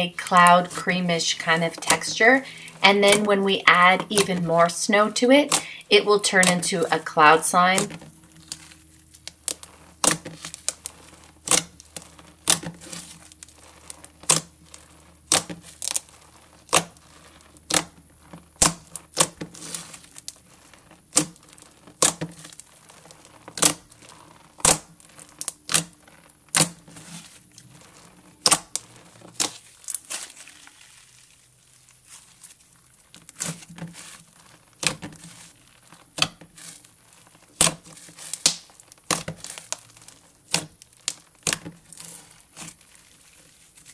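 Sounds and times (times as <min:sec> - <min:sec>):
slime tearing: 0:00.0 - 0:43.9
slime crackling pops: 0:00.2 - 0:43.9.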